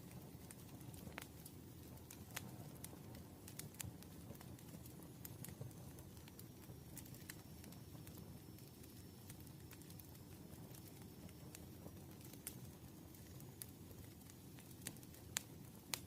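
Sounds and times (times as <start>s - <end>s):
campfire crackling and popping: 0.0s - 16.0s
low rumble of burning wood: 0.0s - 16.0s.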